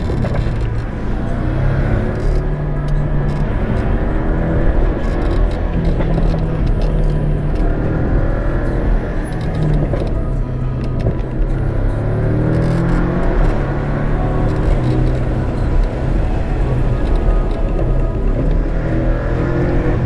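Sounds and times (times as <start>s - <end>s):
car engine from inside cabin: 0.0s - 20.0s
road noise: 0.0s - 20.0s.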